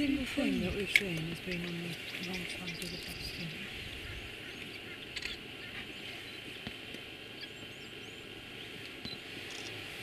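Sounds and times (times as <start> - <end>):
insects hissing: 0.0 - 10.0.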